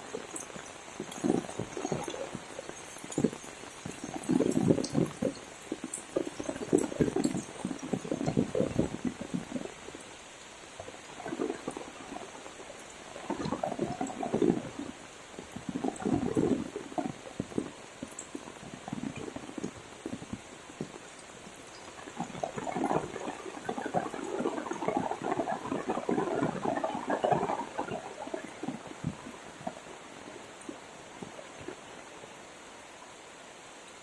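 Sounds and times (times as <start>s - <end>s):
water splashing: 0.0s - 32.3s
heavy rain falling: 0.0s - 34.0s.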